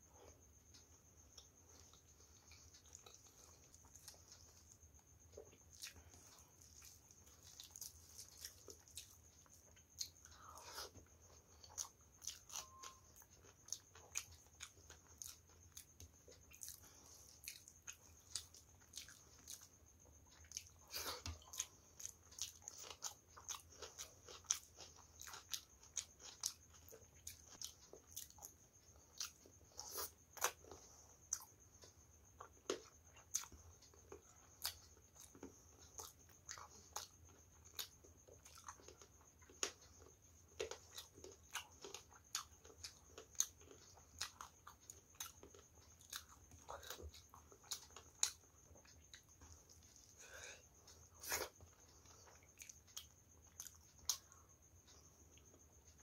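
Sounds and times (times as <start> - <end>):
person chewing and smacking: 0.1 - 56.0.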